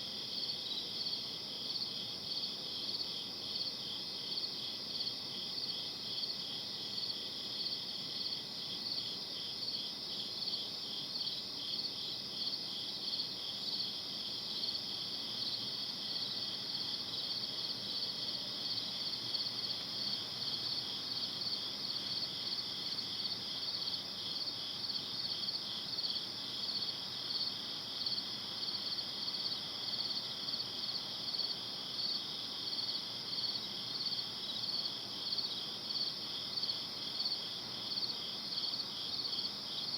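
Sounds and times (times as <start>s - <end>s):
faint low hiss: 0.0s - 39.9s.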